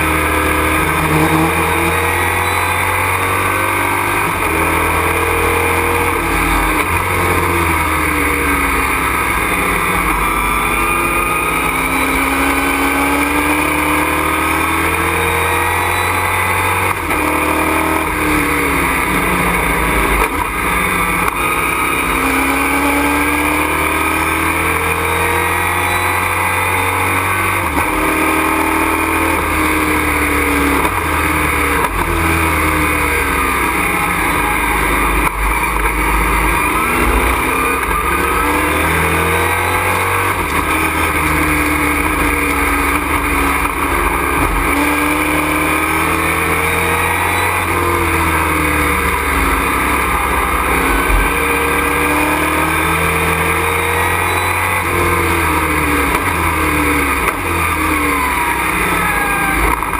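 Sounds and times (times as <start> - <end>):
race truck engine accelerating: 0.0 - 59.9.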